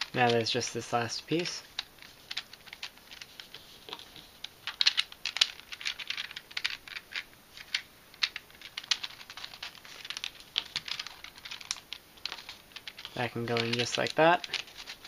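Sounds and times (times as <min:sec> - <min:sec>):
plastic puzzle pieces clicking: 0:01.6 - 0:15.0.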